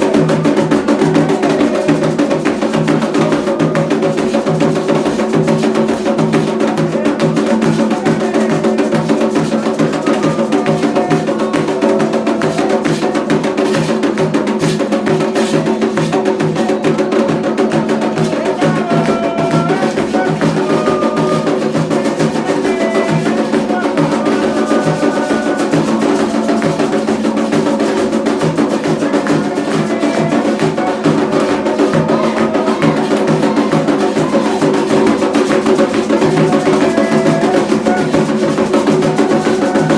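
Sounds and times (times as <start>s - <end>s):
clacking percussion: 0.0s - 39.9s
hand drums playing: 0.0s - 39.9s.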